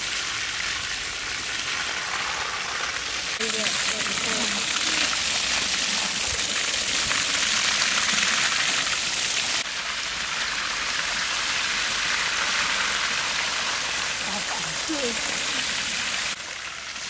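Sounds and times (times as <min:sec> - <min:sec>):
hose water spraying and splashing: 0:00.0 - 0:17.0.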